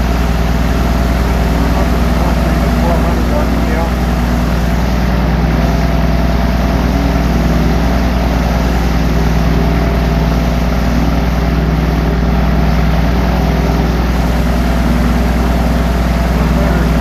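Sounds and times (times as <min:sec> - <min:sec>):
aircraft engine idling: 0:00.0 - 0:17.0.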